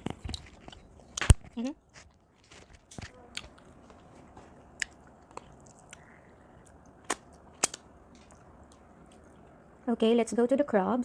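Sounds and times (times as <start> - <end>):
chewing with crunches: 0.0 - 9.8.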